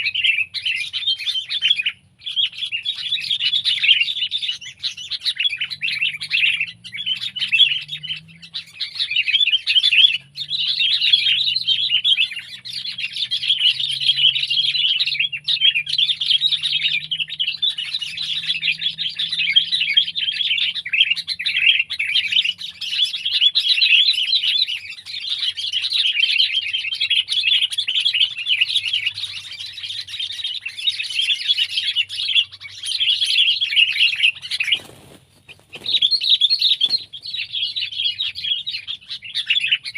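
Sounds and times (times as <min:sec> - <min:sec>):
bulbul chattering: 0:00.0 - 0:39.9.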